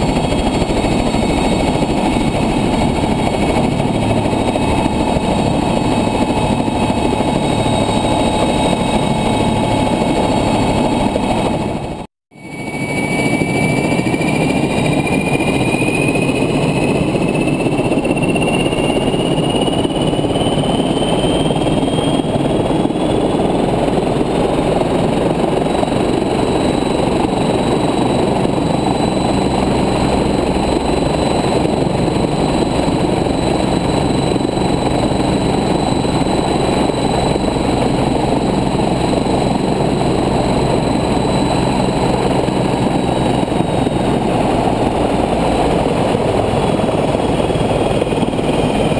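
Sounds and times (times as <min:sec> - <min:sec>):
helicopter engine and rotor noise: 0:00.0 - 0:48.9
high turbine whine: 0:00.0 - 0:48.9.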